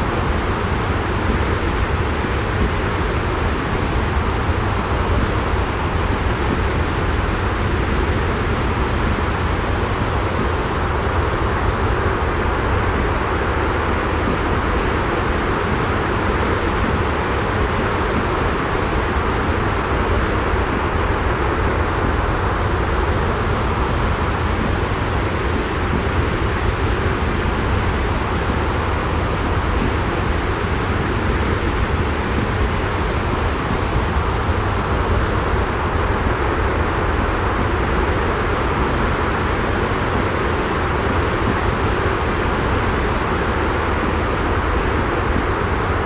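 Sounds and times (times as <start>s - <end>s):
deep constant rumble: 0.0s - 46.0s
white noise hiss: 0.0s - 46.0s.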